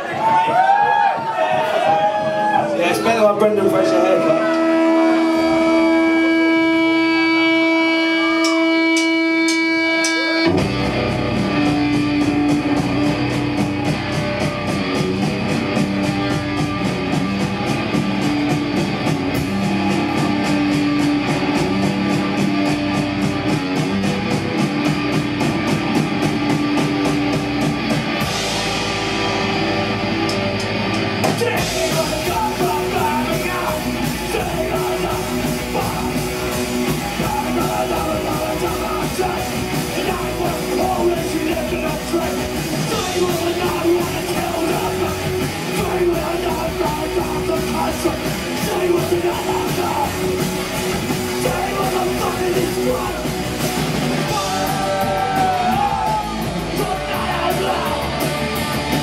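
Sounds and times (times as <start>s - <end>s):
punk rock band playing: 0.0s - 59.0s.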